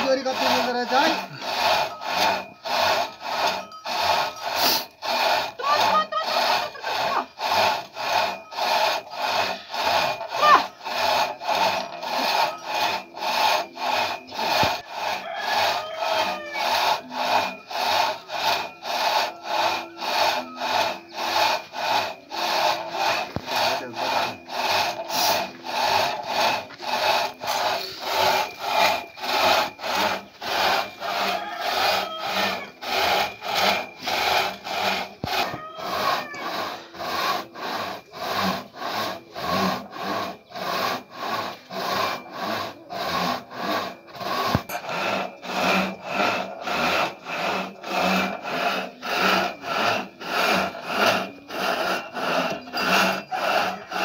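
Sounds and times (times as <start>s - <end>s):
rip saw rasping through log: 0.0s - 54.0s.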